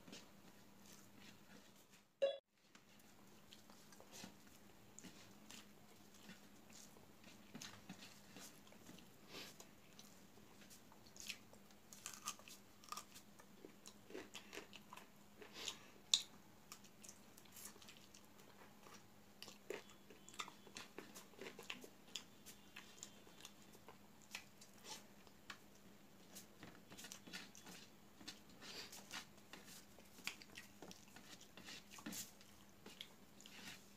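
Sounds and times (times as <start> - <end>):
person chewing: 3.2 - 25.6, 26.3 - 33.9.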